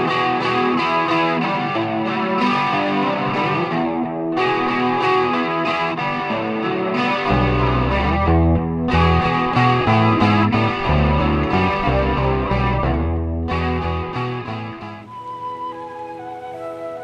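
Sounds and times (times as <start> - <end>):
bass guitar: 0.0 - 15.1
distorted electric guitar melody: 0.0 - 17.0.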